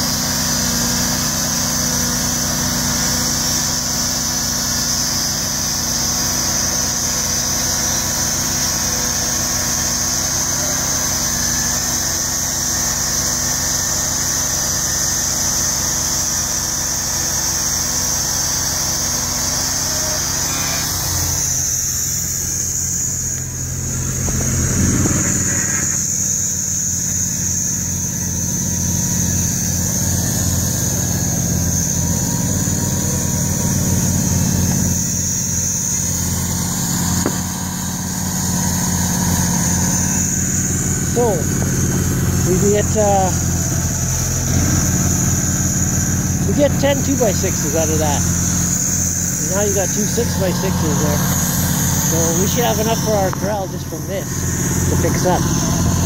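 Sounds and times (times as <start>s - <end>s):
saw blade high whine: 0.0s - 56.0s
small gas engine running: 0.0s - 56.0s.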